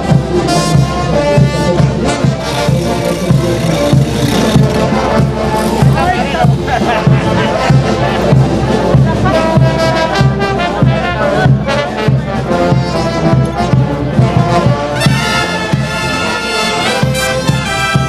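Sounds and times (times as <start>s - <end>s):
brass band playing dance music: 0.0s - 18.0s.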